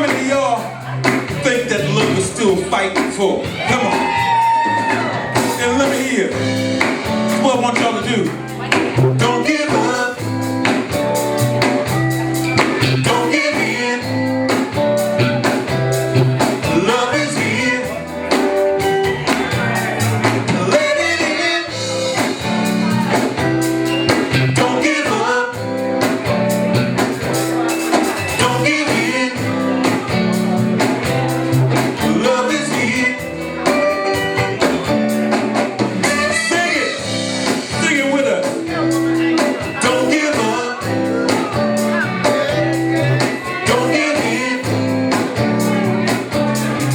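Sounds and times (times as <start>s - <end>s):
live blues band music: 0.0s - 46.9s
steady bass line: 0.0s - 46.9s.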